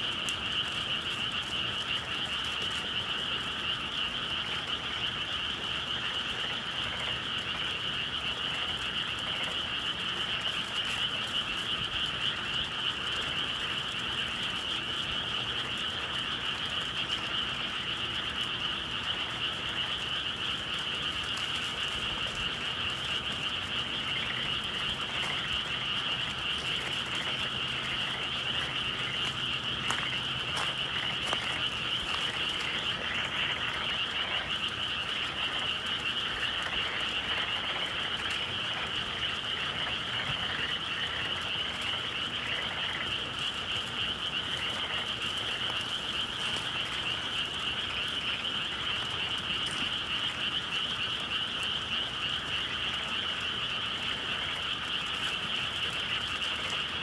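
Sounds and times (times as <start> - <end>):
frogs trilling chorus: 0.0 - 57.0.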